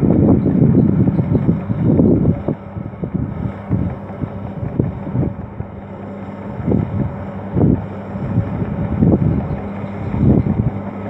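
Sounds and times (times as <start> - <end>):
diesel engine under load: 0.0 - 11.0
wind buffeting microphone: 0.0 - 11.0.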